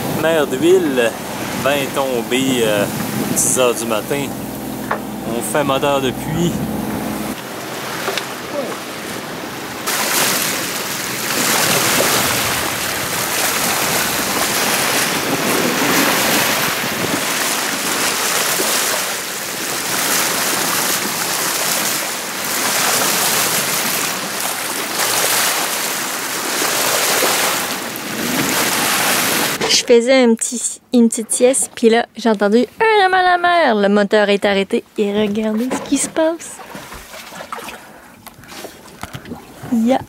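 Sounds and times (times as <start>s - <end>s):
water rushing along hull: 0.0s - 40.0s.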